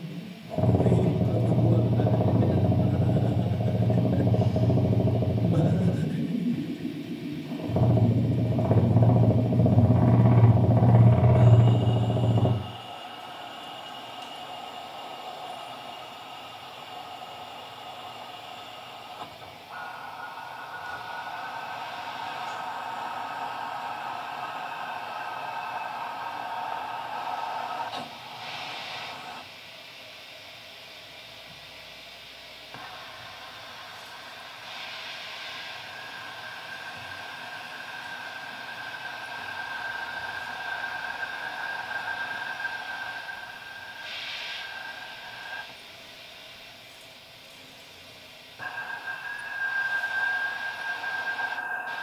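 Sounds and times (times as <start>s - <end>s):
faint sustained tones: 0.0s - 52.0s
hissing airy drone: 0.0s - 52.0s.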